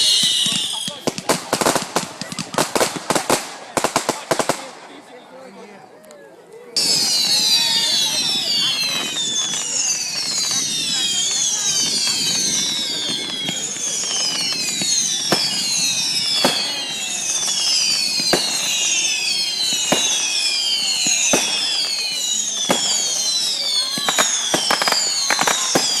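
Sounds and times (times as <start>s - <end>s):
firework bangs: 0.0s - 5.0s, 6.8s - 26.0s
firework cracks: 0.0s - 5.0s, 6.8s - 26.0s
whistling fireworks: 0.0s - 5.7s, 6.8s - 26.0s.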